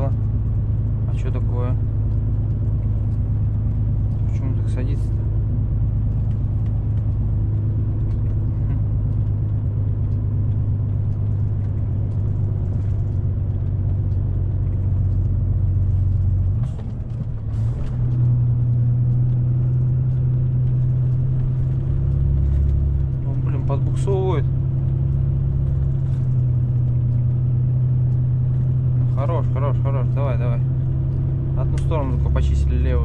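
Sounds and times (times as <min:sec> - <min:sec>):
truck diesel engine pulling hard: 0:00.0 - 0:33.0.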